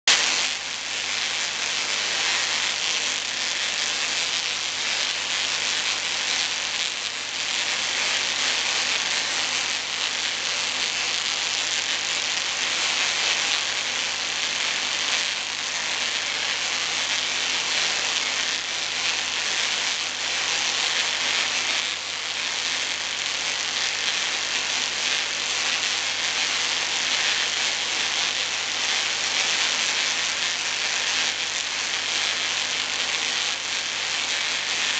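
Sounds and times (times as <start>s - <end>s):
tesla coil hissing crackle: 0.1s - 34.9s.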